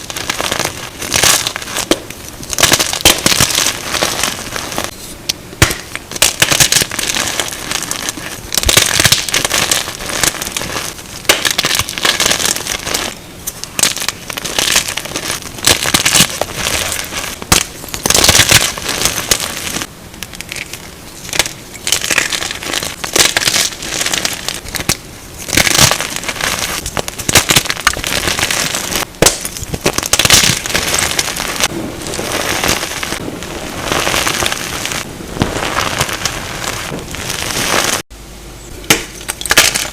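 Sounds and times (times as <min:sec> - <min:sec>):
chalk crunching and crackling: 0:00.0 - 0:38.1.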